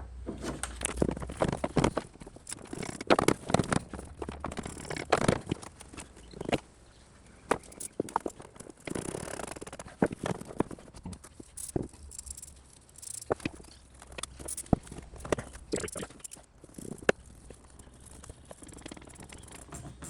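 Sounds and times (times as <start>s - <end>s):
hand tools clicking and rattling: 0.4s - 6.7s, 7.4s - 20.0s.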